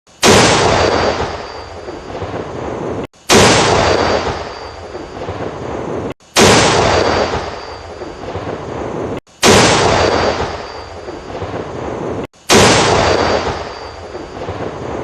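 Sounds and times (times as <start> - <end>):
tank cannon firing: 0.2 - 5.5, 6.3 - 11.9, 12.5 - 15.0.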